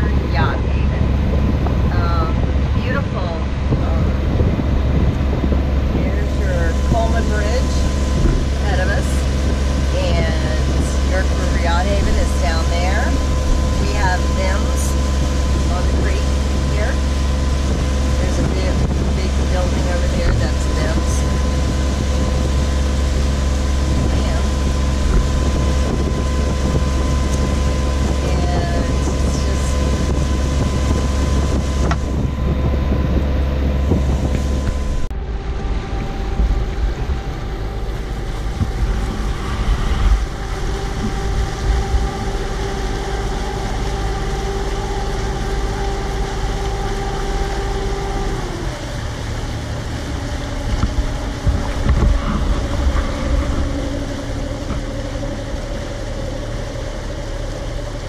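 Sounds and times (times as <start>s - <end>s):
boat engine running: 0.0s - 58.0s
wind on microphone: 0.0s - 58.0s.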